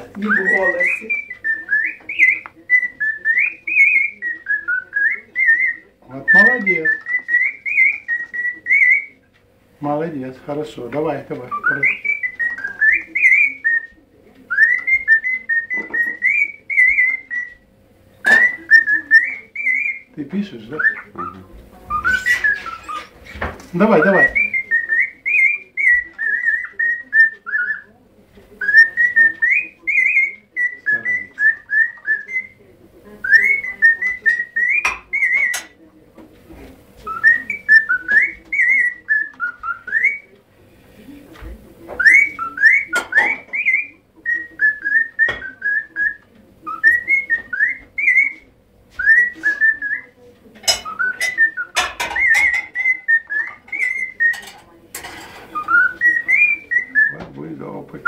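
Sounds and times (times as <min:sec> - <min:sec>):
parrot whistling melody: 0:00.2 - 0:09.2, 0:11.5 - 0:17.6, 0:18.2 - 0:27.9, 0:28.6 - 0:32.6, 0:33.2 - 0:35.8, 0:37.0 - 0:40.3, 0:41.9 - 0:54.6, 0:55.3 - 0:57.3.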